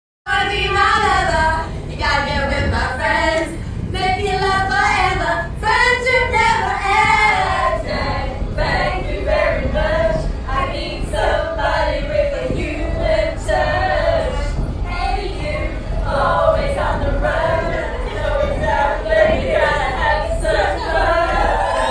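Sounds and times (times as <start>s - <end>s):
women singing together: 0.3s - 21.9s.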